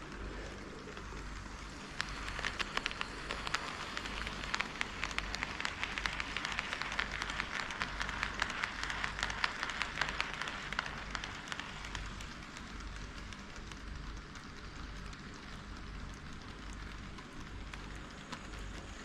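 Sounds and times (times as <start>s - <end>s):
model train wheels rattling: 0.0s - 19.0s.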